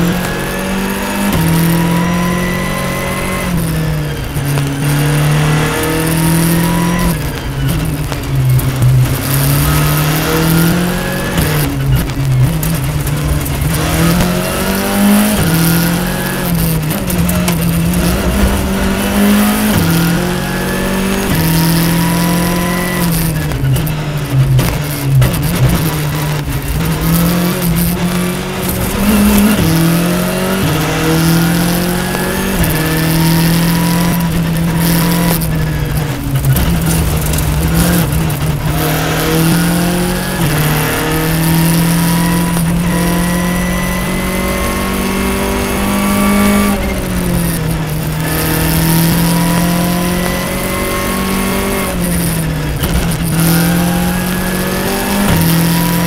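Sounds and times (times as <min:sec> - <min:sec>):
rally car engine revving: 0:00.0 - 0:56.0
tyre and road noise: 0:00.0 - 0:56.0.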